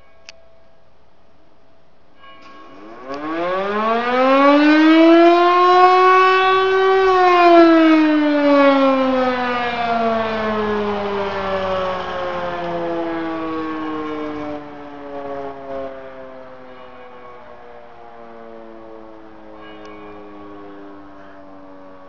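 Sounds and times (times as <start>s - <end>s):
electric motor siren wailing: 2.5s - 22.0s.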